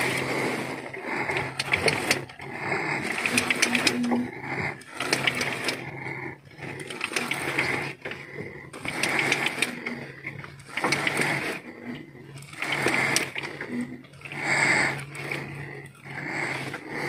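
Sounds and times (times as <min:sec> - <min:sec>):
fishing reel gears whirring: 0:00.0 - 0:17.0.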